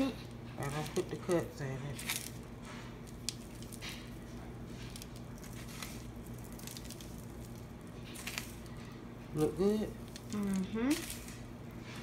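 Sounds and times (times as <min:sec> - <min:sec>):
soft squishing by hand: 0:00.0 - 0:12.0
steady low hum: 0:00.0 - 0:12.0.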